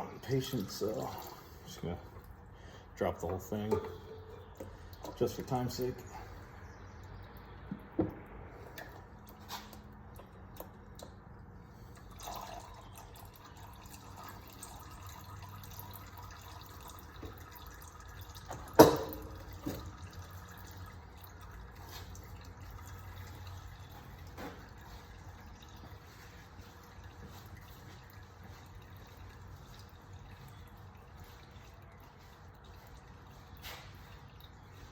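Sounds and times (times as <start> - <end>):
oil trickling and dripping: 0.0 - 34.9.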